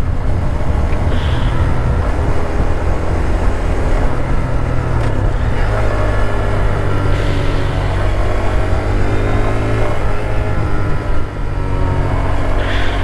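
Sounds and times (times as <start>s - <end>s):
motorcycle engine running: 0.0s - 13.0s
wind rushing over microphone: 0.0s - 13.0s.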